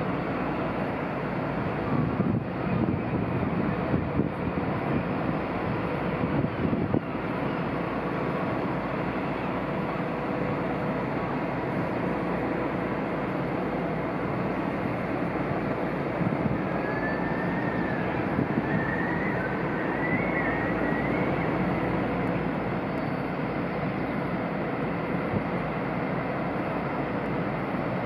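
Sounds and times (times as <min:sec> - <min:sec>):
ship machinery low rumble: 0:00.0 - 0:28.0.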